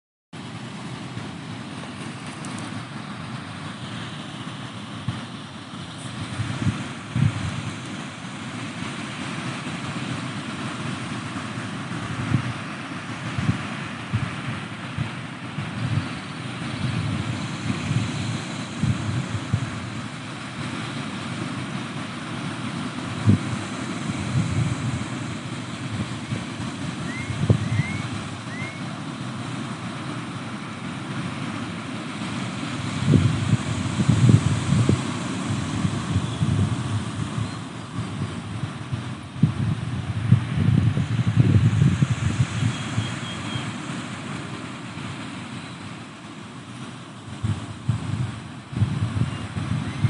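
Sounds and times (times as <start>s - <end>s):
surf washing against seawall: 0.4s - 50.0s
wind buffeting microphone: 0.5s - 50.0s.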